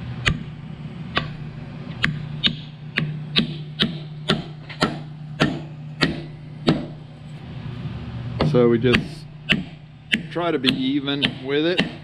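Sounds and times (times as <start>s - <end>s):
low hum: 0.0s - 12.0s
mallet tapping metal: 0.2s - 0.5s, 1.1s - 7.0s, 8.4s - 12.0s.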